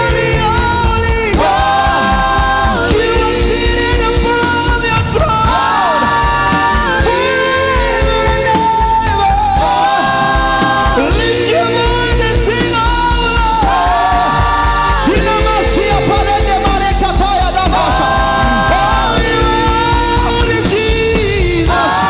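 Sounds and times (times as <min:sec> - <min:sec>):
live gospel worship music: 0:00.0 - 0:22.0.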